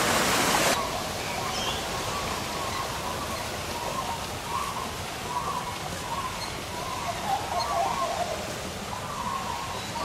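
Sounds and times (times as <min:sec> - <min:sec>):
outdoor hiss: 0:00.0 - 0:10.0
birds chirping faintly: 0:00.8 - 0:10.0.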